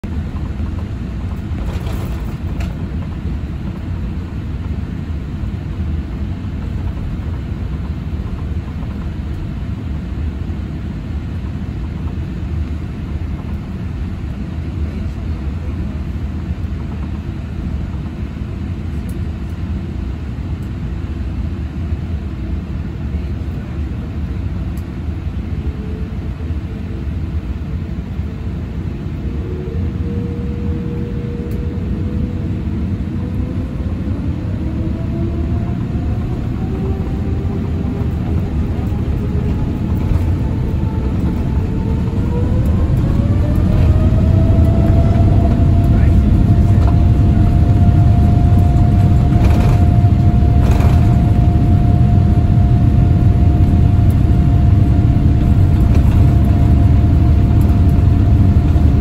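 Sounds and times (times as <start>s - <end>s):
aircraft cabin low rumble: 0.0s - 59.0s
faint engine whine: 0.0s - 59.0s.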